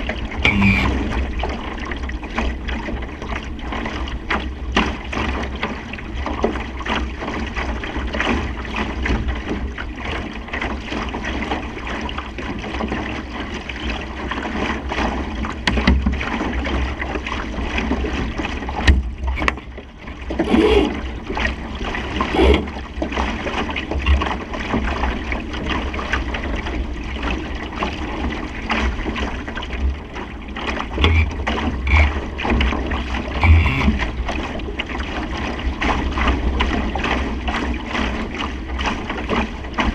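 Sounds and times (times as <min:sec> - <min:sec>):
short splashes and knocks: 0:00.0 - 0:39.9
water rushing along hull: 0:00.0 - 0:39.9.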